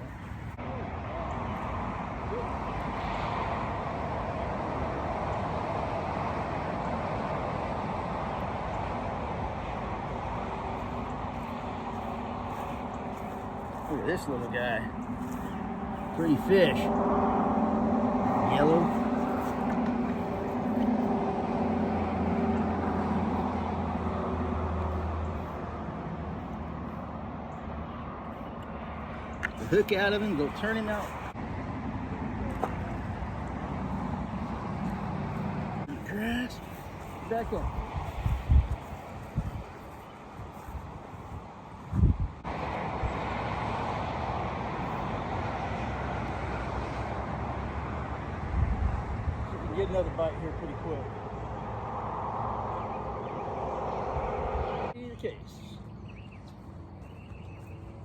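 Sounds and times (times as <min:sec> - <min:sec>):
distant engine droning: 0:00.0 - 0:58.0.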